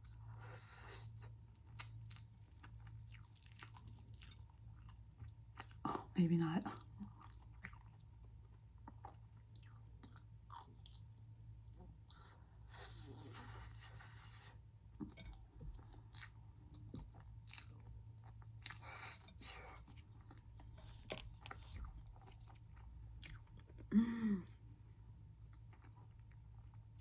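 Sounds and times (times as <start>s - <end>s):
chewing fried food: 0.0s - 23.9s, 25.3s - 27.0s.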